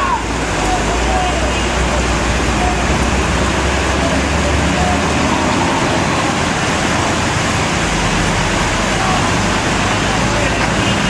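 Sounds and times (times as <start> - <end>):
heavy rain hissing: 0.0 - 11.0
traffic on flooded road: 0.0 - 11.0.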